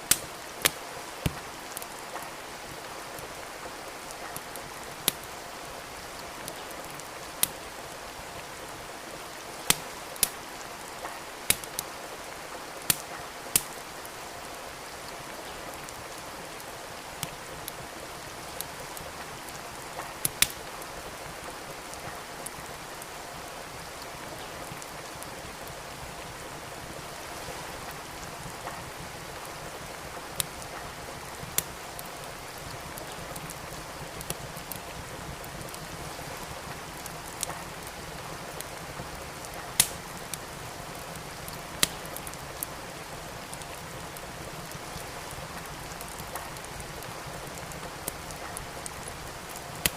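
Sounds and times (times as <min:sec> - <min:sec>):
steady rain hiss: 0:00.0 - 0:49.9
wood fire crackling: 0:00.0 - 0:49.9.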